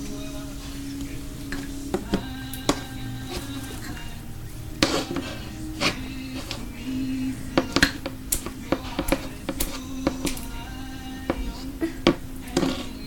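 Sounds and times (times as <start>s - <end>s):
radio music: 0.0s - 13.0s
utensil clinking against bowl: 0.0s - 13.0s.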